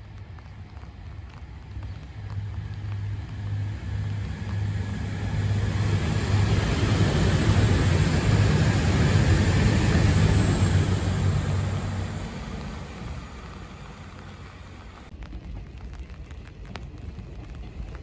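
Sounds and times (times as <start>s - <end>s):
passenger train passing: 0.0s - 17.9s
rain hissing: 0.0s - 18.0s.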